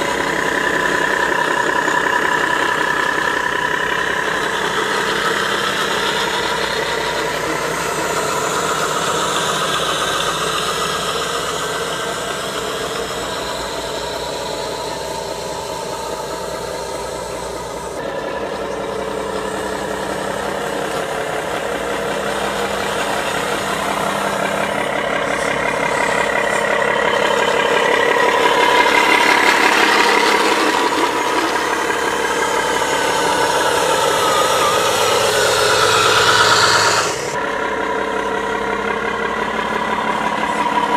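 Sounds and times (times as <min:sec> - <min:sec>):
model trucks driving: 0:00.0 - 0:40.9.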